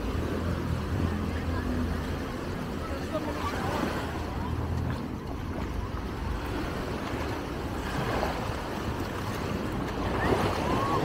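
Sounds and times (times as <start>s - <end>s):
shallow water lapping: 0.0s - 11.0s
wind rumbling on microphone: 0.0s - 11.0s.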